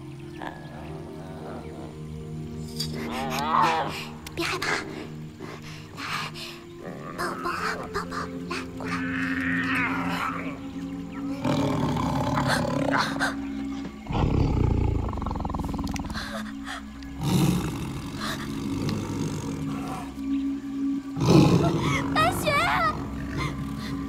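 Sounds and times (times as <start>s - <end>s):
tiger growling and roaring: 0.0s - 5.2s, 6.8s - 20.2s, 21.2s - 24.0s
background music: 0.0s - 24.0s.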